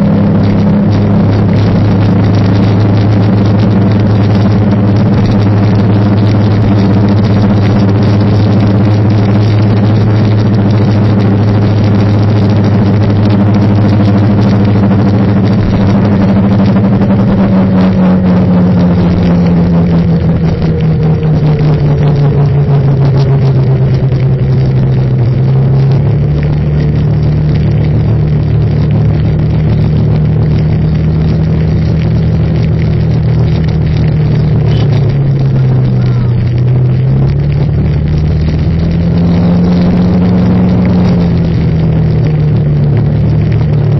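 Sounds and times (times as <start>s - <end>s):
road noise: 0.0s - 43.9s
vehicle engine running: 0.0s - 43.9s.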